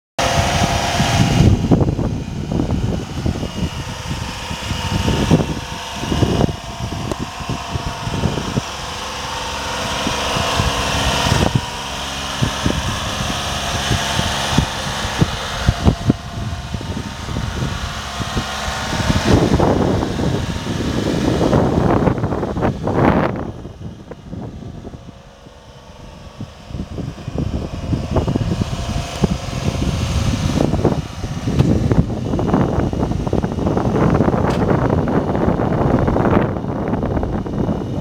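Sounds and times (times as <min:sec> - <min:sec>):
small truck engine idling: 0:00.2 - 0:38.0
wind on microphone: 0:00.2 - 0:38.0.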